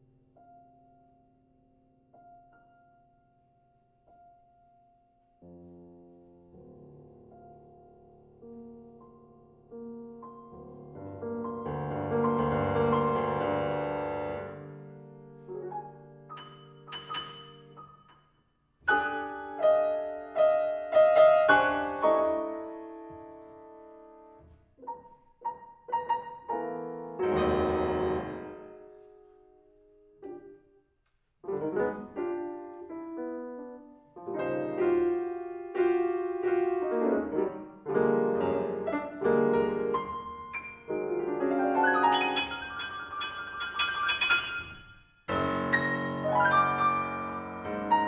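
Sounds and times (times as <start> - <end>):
solo piano piece: 0.0 - 48.0.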